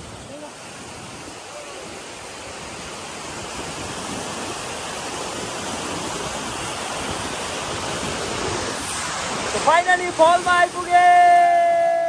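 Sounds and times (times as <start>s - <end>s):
waterfall rushing onto rocks: 0.0s - 12.0s.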